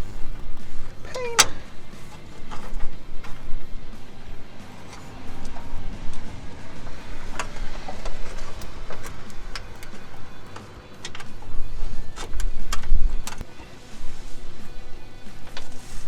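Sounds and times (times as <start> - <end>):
low rumble: 0.0 - 15.7.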